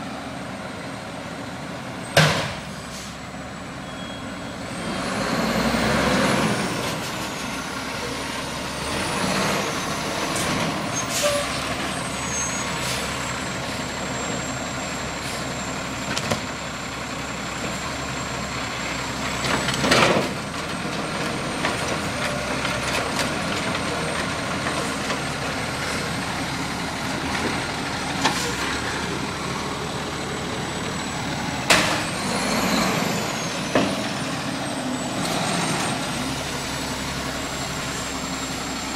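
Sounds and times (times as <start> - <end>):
diesel truck engine running: 4.6 - 38.9.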